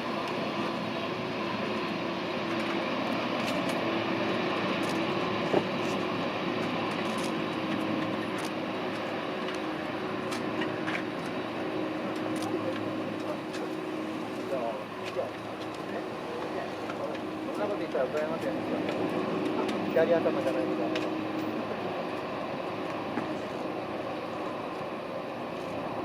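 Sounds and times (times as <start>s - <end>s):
distant jet engines rushing: 0.0s - 26.0s.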